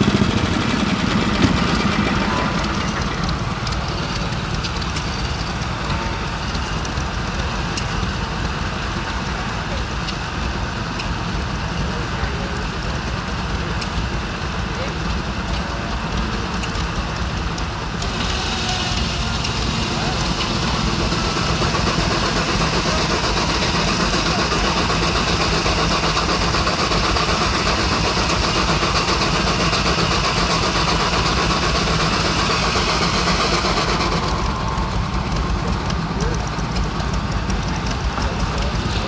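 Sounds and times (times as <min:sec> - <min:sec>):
sawmill cutting a log: 0:00.0 - 0:39.0
steam engine running: 0:00.0 - 0:39.0.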